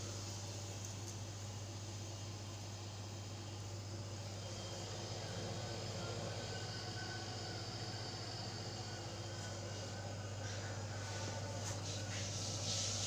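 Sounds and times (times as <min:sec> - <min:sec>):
refrigerator compressor humming: 0:00.0 - 0:13.0.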